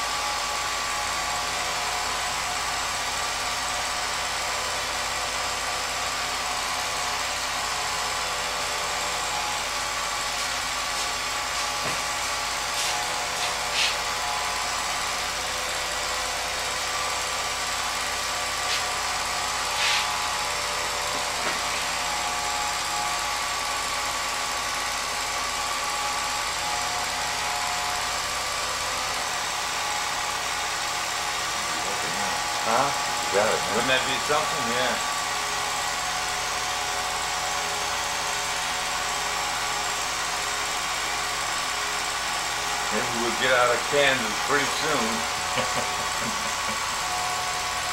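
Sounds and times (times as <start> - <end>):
film projector motor whirring: 0.0 - 47.9.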